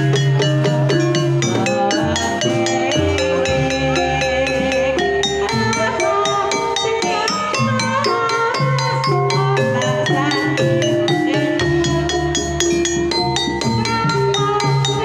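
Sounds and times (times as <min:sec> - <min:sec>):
ringing metallophones: 0:00.0 - 0:15.0.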